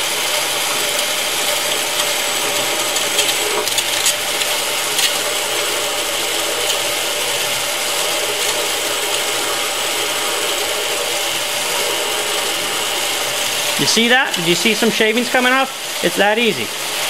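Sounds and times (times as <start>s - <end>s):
drill bit scraping grinder wheel: 0.0s - 17.0s.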